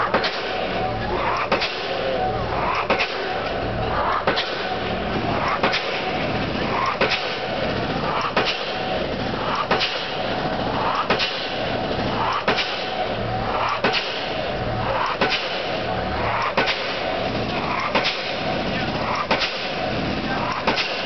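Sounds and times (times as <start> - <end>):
pile hammer blows: 0.0 - 21.0
rig engine hum: 0.0 - 21.0.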